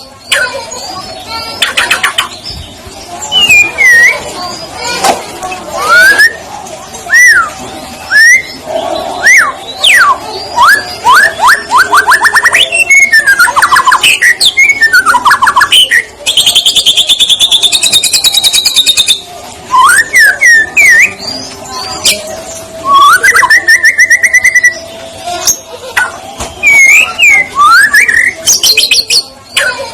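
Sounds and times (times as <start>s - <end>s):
bird singing varied song: 0.0s - 5.0s, 5.8s - 29.9s.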